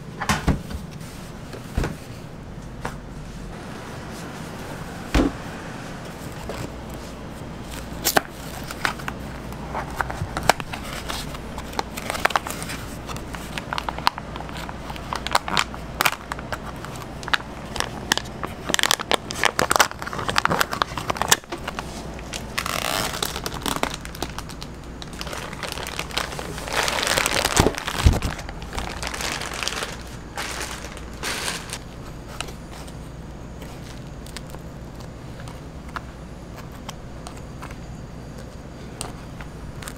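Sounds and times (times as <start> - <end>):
plastic liner crinkling: 6.2 - 39.9.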